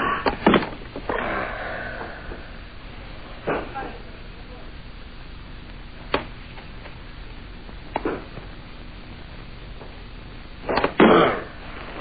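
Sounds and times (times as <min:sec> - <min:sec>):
old film soundtrack hiss: 0:00.0 - 0:12.0.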